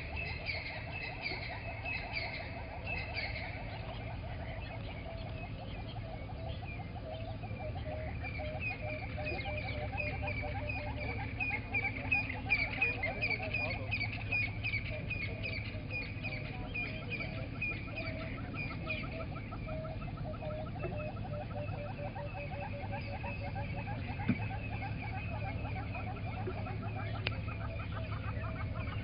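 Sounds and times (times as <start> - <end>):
birds chirping and trilling: 0.0 - 29.0
steady low hum: 0.0 - 29.0.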